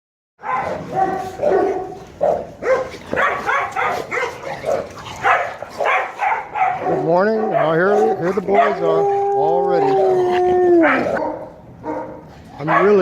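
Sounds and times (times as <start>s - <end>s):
dogs barking and yipping: 0.4s - 13.0s.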